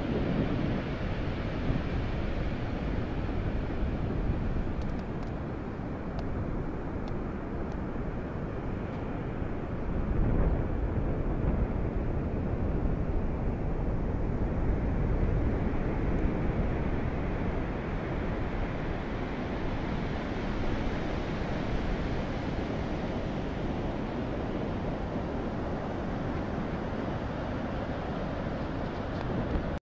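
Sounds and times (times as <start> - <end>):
surf washing on a beach: 0.0 - 29.8
wind buffeting the microphone: 0.0 - 29.8.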